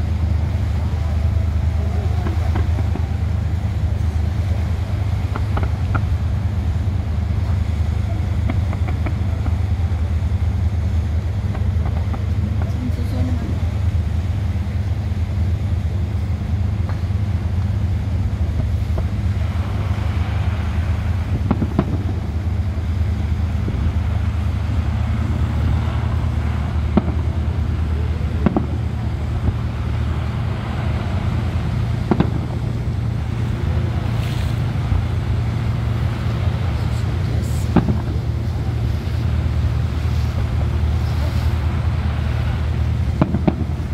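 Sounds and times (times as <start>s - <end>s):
boat engine drone: 0.0s - 43.9s.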